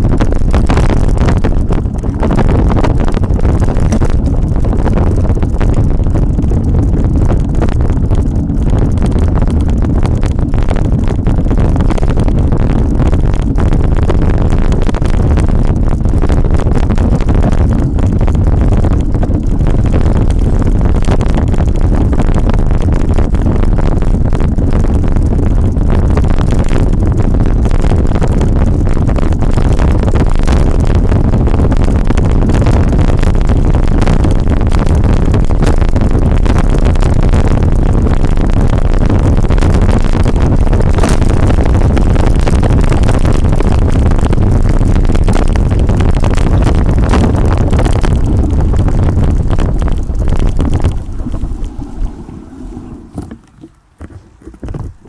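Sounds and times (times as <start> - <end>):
bike tyres rumbling and rattling: 0.0 - 55.0
wind buffeting microphone: 0.0 - 55.0.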